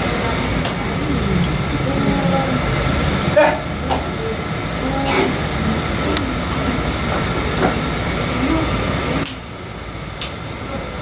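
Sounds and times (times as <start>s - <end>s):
indistinct voices: 0.0s - 9.4s
rumbling room noise: 0.0s - 11.0s.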